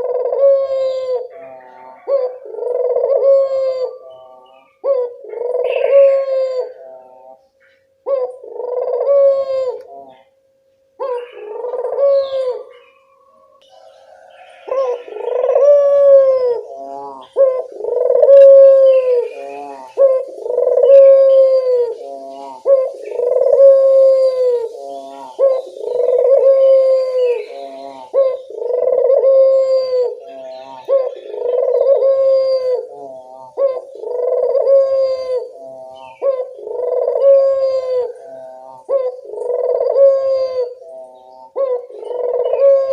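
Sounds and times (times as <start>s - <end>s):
dove cooing: 0.0s - 10.3s, 11.0s - 42.9s
small birds chirping: 0.0s - 10.4s, 11.0s - 42.9s.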